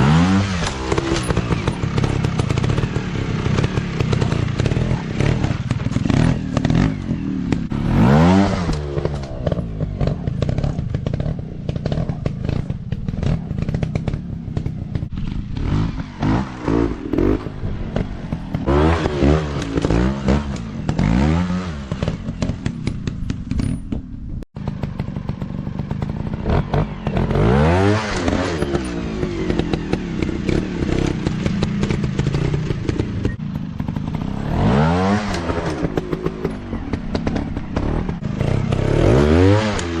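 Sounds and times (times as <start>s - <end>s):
dirt bike engines revving: 0.0s - 23.6s, 24.6s - 40.0s.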